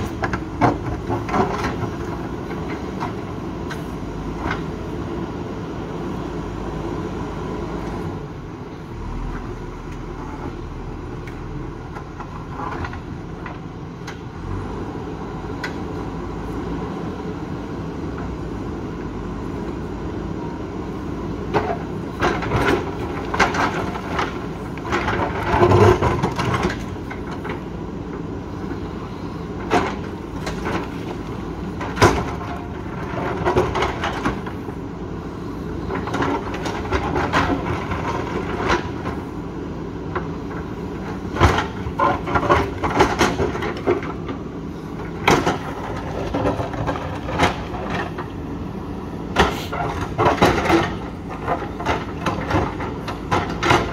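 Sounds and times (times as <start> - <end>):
diesel engine running under load: 0.0 - 53.9.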